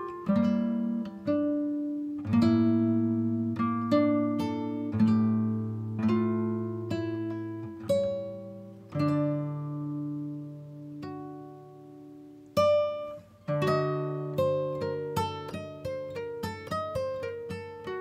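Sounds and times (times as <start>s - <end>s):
acoustic guitar plucked chords: 0.0s - 18.0s.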